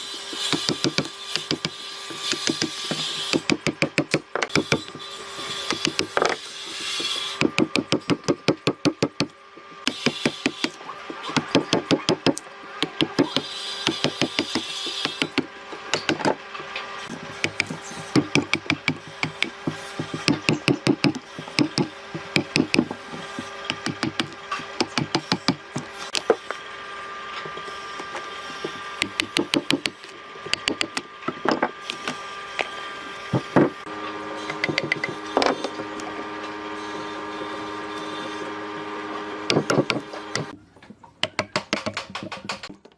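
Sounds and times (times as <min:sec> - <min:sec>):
steady hum: 0:00.0 - 0:41.1.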